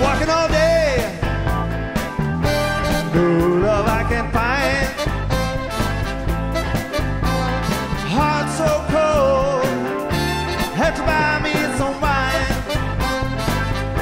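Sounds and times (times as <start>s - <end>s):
rock song with vocals: 0.0s - 14.0s.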